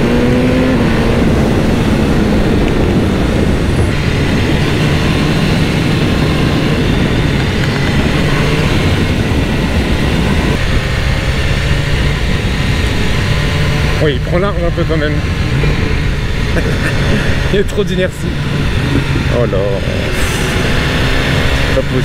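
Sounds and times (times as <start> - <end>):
wind noise on microphone: 0.0 - 21.8
motorcycle engine cruising: 0.0 - 22.0.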